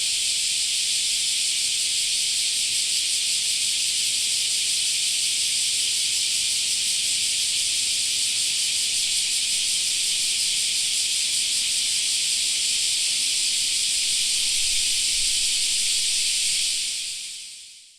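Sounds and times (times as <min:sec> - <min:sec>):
cicadas droning: 0:00.0 - 0:17.9.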